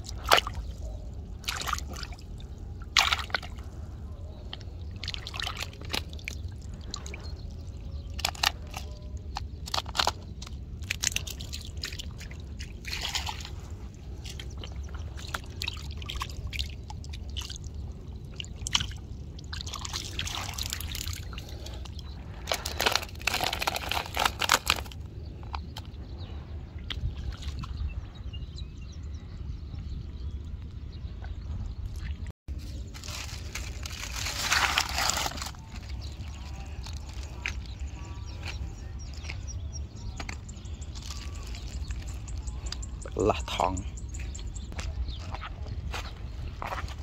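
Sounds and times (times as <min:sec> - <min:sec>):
water splashing and sloshing: 0:00.0 - 0:28.2, 0:30.6 - 0:43.6.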